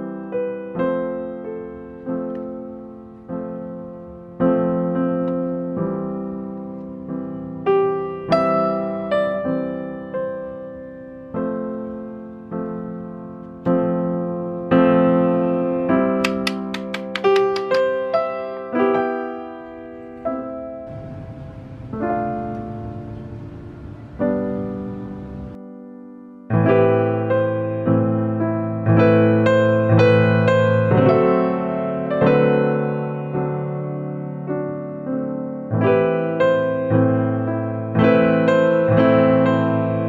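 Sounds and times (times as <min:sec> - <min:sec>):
gentle piano music: 0:00.0 - 0:40.0.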